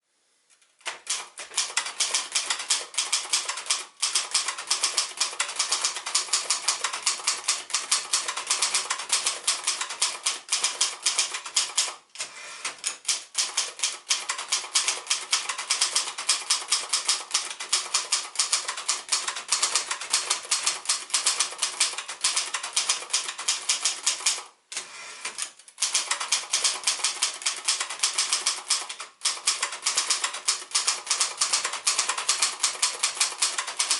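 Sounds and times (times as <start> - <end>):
typewriter key strikes: 0.8 - 12.0, 12.8 - 24.4, 25.3 - 33.9.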